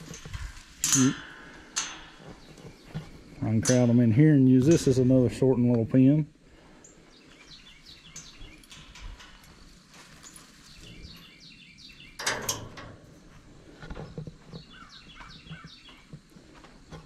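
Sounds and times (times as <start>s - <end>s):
small birds chirping: 0.0s - 12.3s, 13.3s - 17.0s.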